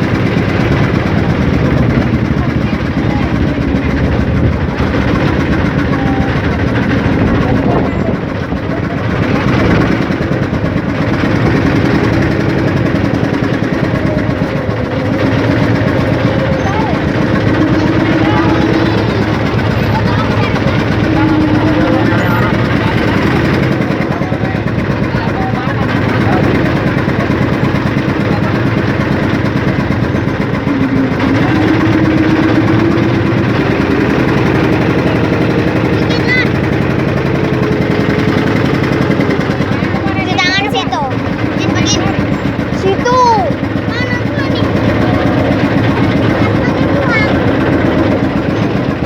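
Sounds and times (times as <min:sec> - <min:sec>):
boat engine throbbing: 0:00.0 - 0:49.0.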